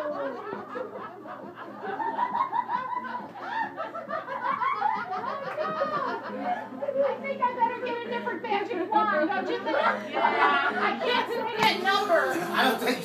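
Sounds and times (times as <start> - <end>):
group of people laughing: 0.0 - 13.0.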